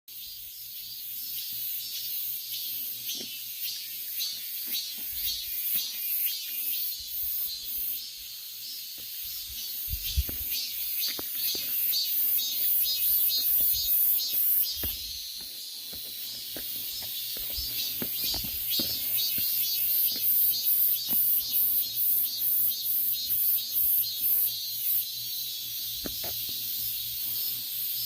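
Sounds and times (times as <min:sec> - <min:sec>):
cicadas buzzing: 0:00.1 - 0:28.0.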